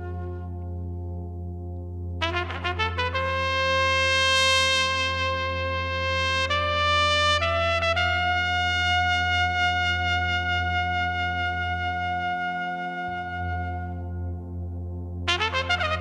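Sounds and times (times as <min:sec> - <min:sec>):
steady low drone: 0:00.0 - 0:16.0.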